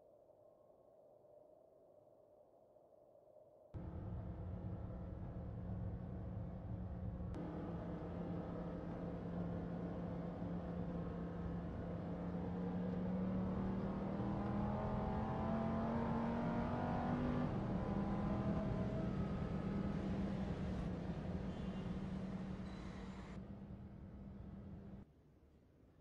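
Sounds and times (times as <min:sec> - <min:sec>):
sports car engine accelerating: 0:03.8 - 0:25.0.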